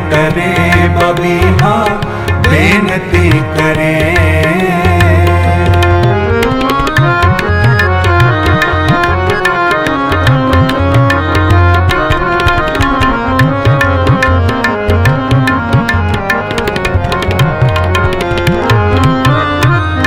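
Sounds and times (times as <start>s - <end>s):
harmonium tones: 0.0s - 20.0s
tabla playing a busy rhythm: 0.0s - 20.0s.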